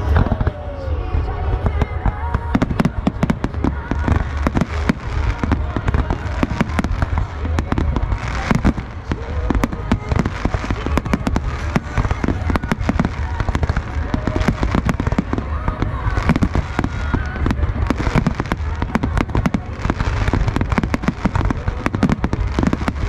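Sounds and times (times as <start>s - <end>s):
deep rumble: 0.0s - 23.0s
fireworks cracking: 0.0s - 23.0s.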